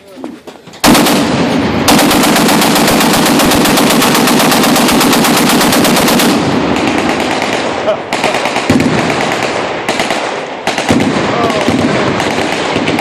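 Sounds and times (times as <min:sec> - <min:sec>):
machine-gun fire: 0:00.8 - 0:13.0.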